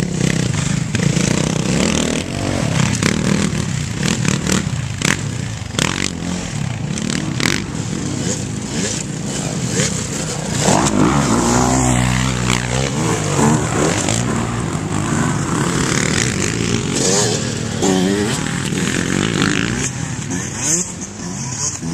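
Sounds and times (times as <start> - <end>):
dirt bike engine passing: 0.0 - 21.9.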